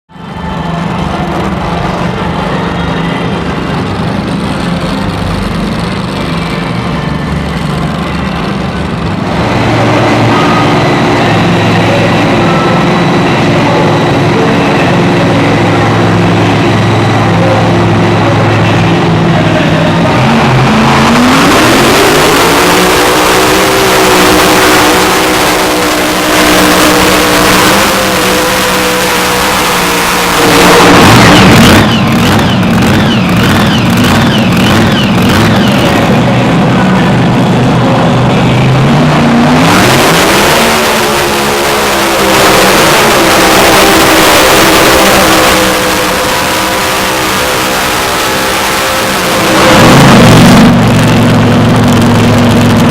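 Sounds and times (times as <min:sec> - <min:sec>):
loud tractor engine revving: 0:00.1 - 0:52.9.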